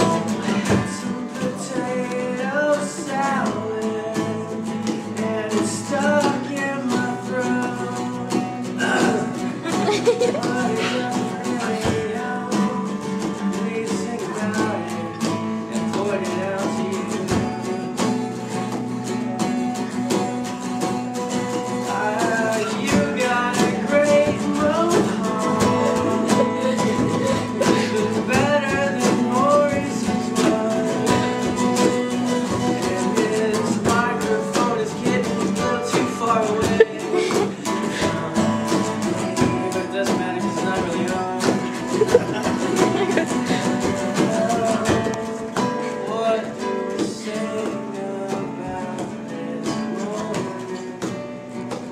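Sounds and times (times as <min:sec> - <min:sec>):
man singing: 0:00.0 - 0:20.5, 0:21.1 - 0:51.9
strummed acoustic guitar: 0:00.0 - 0:51.9.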